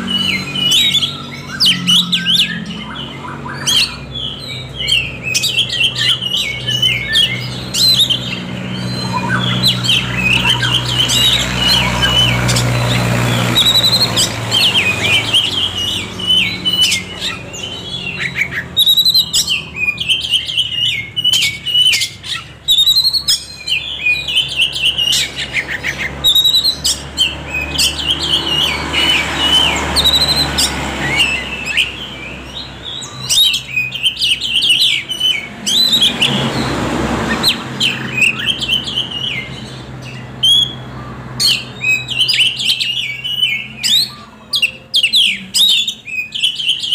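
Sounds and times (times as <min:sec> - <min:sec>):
bird singing chirps and trills: 0:00.0 - 0:46.9.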